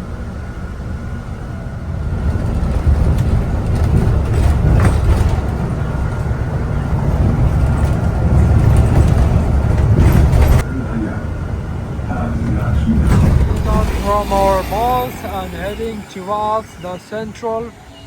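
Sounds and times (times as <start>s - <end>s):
bus engine rumble: 0.0s - 18.0s
road noise: 0.0s - 18.0s.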